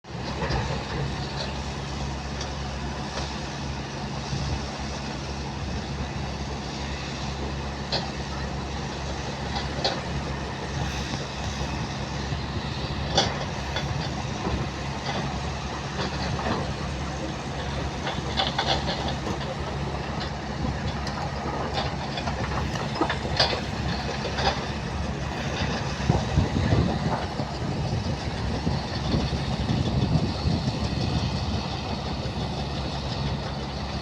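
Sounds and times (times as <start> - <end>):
digger diesel engine running: 0.0 - 34.0.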